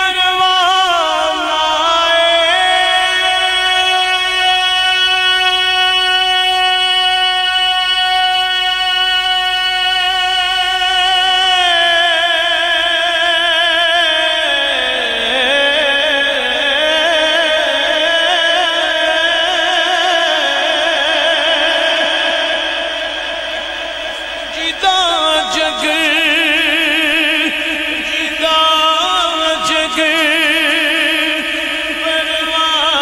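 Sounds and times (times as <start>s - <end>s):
man singing: 0.0s - 33.0s
steady drone: 0.0s - 33.0s.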